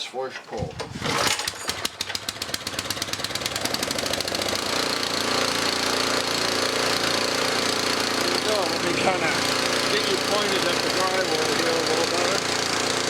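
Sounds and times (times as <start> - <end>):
snowblower engine starting and running: 0.6 - 13.0.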